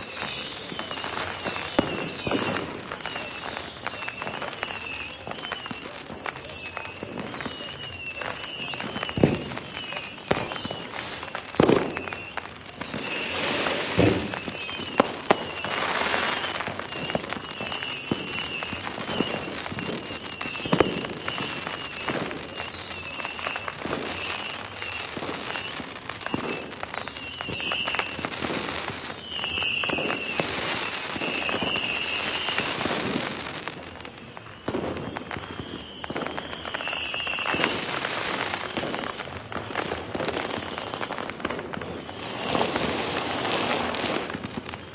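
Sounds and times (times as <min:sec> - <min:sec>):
fireworks bangs: 0:00.0 - 0:44.9
fireworks crackling: 0:00.0 - 0:44.9
high-pitched whistle: 0:00.0 - 0:44.9.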